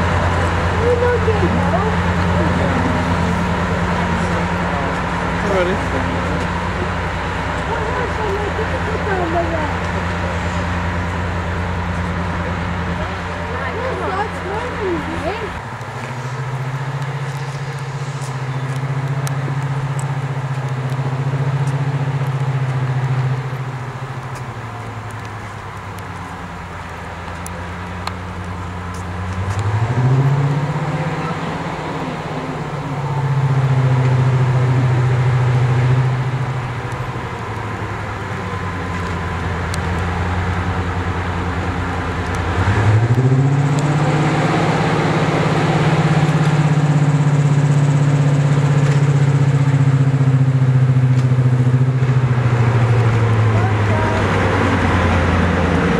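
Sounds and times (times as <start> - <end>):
diesel locomotive engine running: 0.0 - 55.9.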